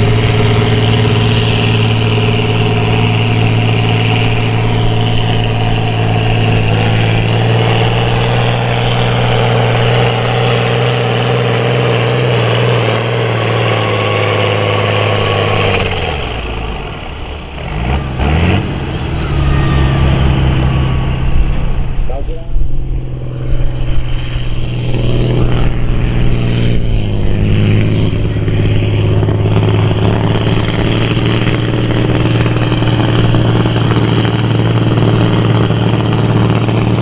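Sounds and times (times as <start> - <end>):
tractor engine running hard: 0.0 - 37.0.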